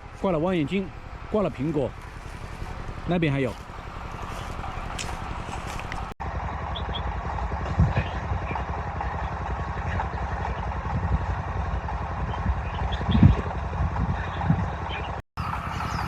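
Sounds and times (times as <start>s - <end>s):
engine running with pulsing rumble: 0.0s - 16.0s.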